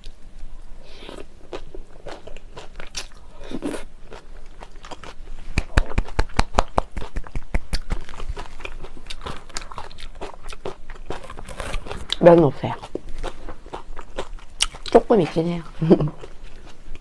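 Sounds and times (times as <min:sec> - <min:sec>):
chewing and crunching: 0:01.0 - 0:17.0.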